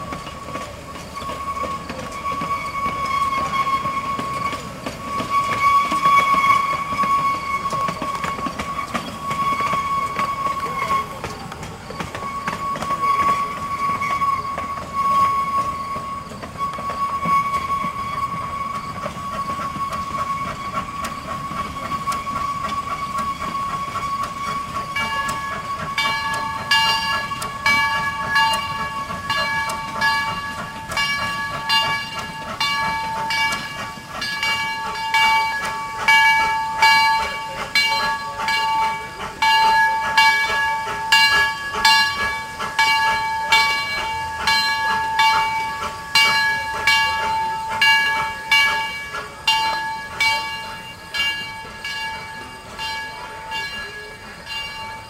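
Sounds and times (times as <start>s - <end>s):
steam locomotive exhaust chuffs: 0.0s - 55.0s.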